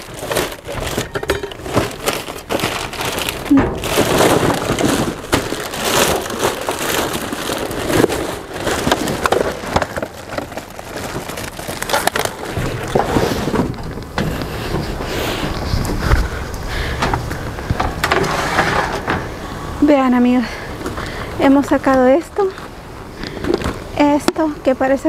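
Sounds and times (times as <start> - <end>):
rummaging through trash: 0.0 - 24.8.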